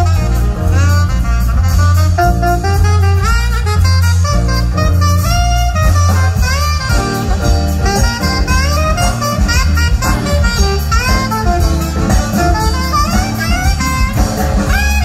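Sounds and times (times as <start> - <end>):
jazz big band playing: 0.0 - 15.0
saxophone solo: 0.0 - 15.0.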